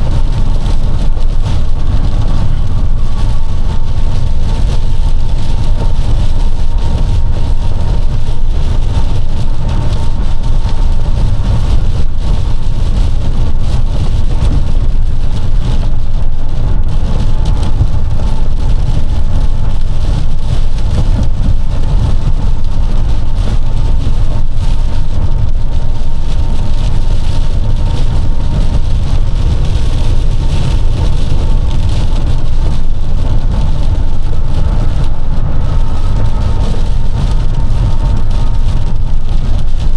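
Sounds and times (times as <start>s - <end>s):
heavy rain: 0.0s - 39.9s
strong wind: 0.0s - 39.9s
truck engine and road rumble: 0.0s - 39.9s.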